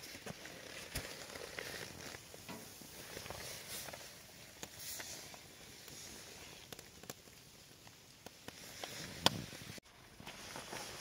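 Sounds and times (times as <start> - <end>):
small crackles and clicks: 0.0 - 11.0.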